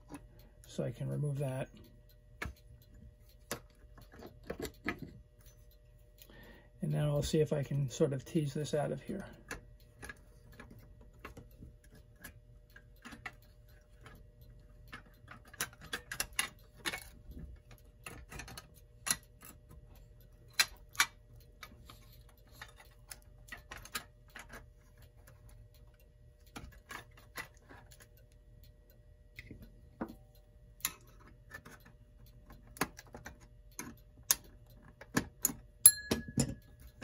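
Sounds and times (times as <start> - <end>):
small clicks and metallic knocks: 0.0 - 37.0.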